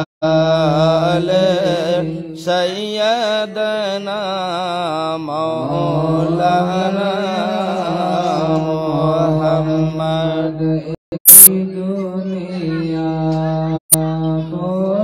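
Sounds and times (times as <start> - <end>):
man chanting over loudspeaker: 0.0 - 15.0.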